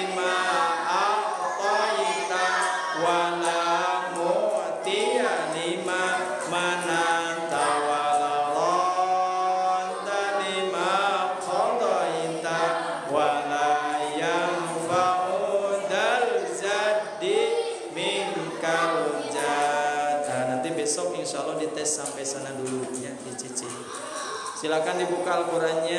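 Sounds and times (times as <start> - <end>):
man chanting into a microphone: 0.0 - 23.9, 24.5 - 25.9.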